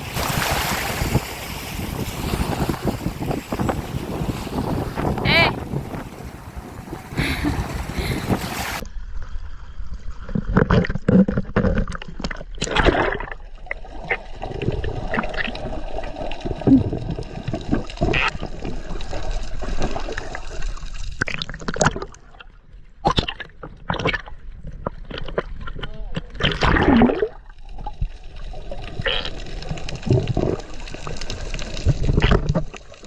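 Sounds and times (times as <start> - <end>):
water splashing and sloshing: 0.0 - 8.8, 11.7 - 22.5, 23.6 - 33.0.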